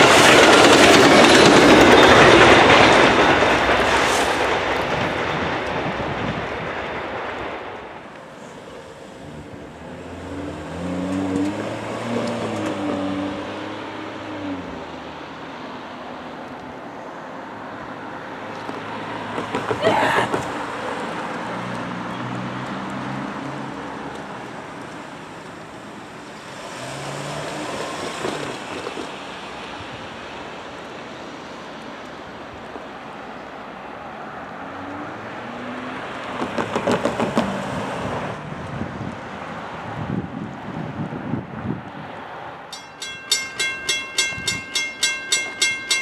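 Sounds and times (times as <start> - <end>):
car tyre and engine noise: 0.0 - 45.0.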